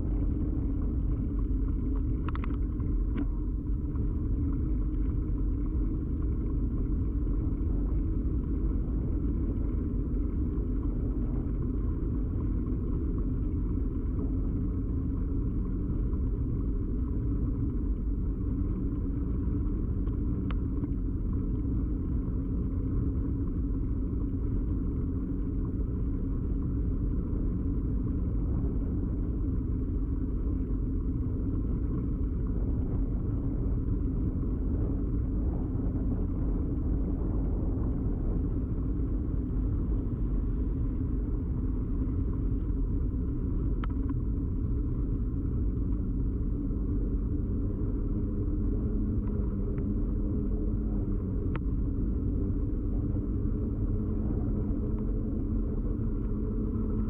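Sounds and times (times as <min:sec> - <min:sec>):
bicycle rumble and vibration: 0:00.0 - 0:57.0.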